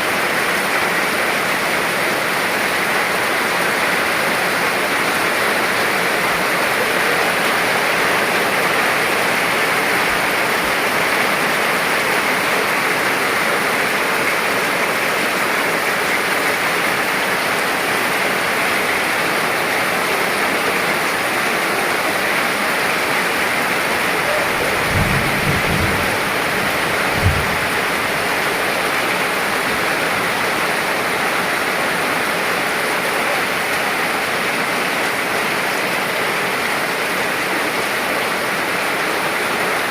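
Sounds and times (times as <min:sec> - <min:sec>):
steady rainfall hissing: 0:00.0 - 0:39.9.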